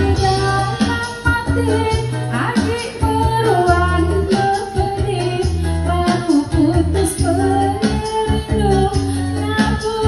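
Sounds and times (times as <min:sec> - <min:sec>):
amplified pop backing music: 0:00.0 - 0:10.0
woman singing into a microphone: 0:00.0 - 0:10.0.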